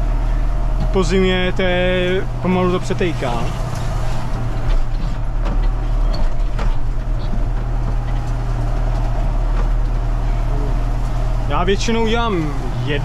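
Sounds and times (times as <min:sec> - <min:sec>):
tractor diesel engine running: 0:00.0 - 0:13.0
knocks and rattles: 0:00.6 - 0:12.9.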